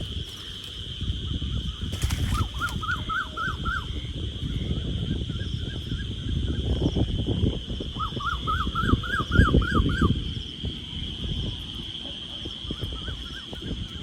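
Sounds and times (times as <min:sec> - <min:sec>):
insect chorus shrilling: 0:00.0 - 0:14.0.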